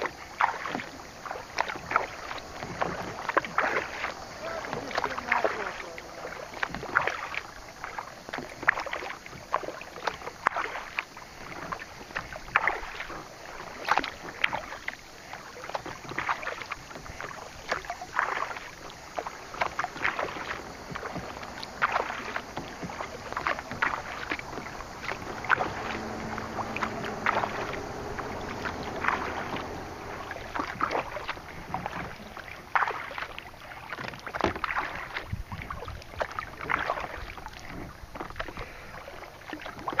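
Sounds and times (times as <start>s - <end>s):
kayak paddle splashing: 0.0s - 40.0s.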